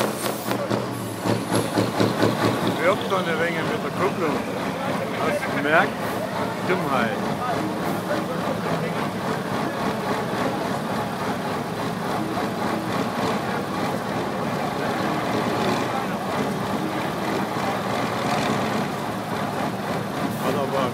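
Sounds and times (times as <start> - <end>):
people talking: 0.0 - 20.9
truck engine running: 0.0 - 20.9.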